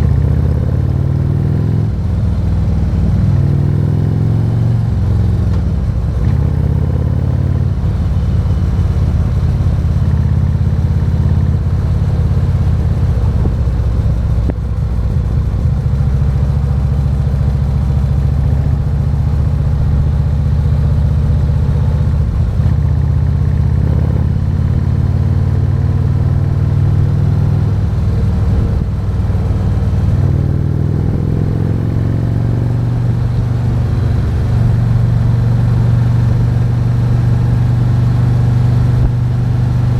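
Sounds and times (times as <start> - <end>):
motorcycle engine cruising: 0.0 - 39.9
road noise: 0.0 - 39.9.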